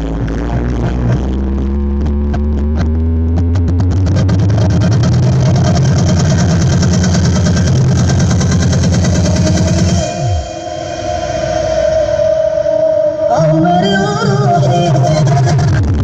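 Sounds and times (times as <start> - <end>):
loud dance music with heavy bass: 0.0 - 3.1, 3.8 - 11.6, 13.3 - 16.0.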